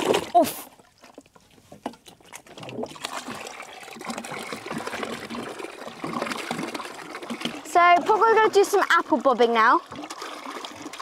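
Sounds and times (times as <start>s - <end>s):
water pouring into plastic tub: 0.0s - 11.0s.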